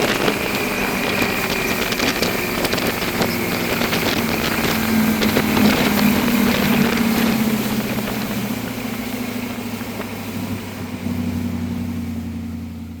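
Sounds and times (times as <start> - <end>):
motorboat engine running: 0.0 - 13.0
water and wind noise: 0.0 - 13.0.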